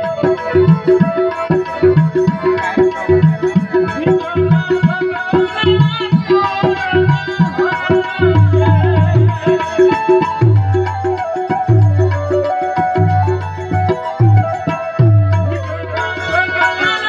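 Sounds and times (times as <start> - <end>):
harmonium melody: 0.0 - 17.0
tabla playing: 0.0 - 17.0.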